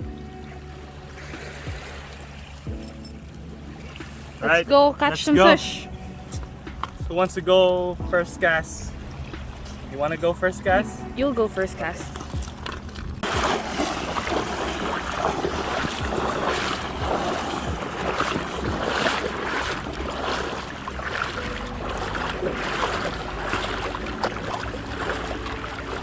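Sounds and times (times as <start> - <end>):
water washing: 0.0 - 26.0
wind buffeting microphone: 0.0 - 26.0.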